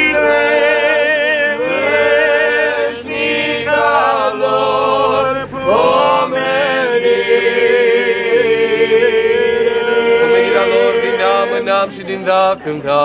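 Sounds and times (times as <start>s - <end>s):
unaccompanied vocal chant: 0.0s - 13.0s.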